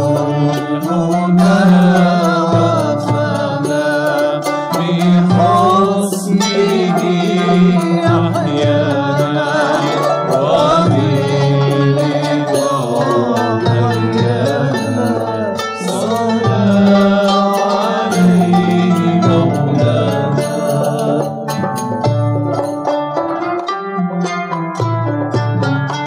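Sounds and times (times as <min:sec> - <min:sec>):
ornamented melody: 0:00.0 - 0:26.0
plucked strings: 0:00.0 - 0:26.0.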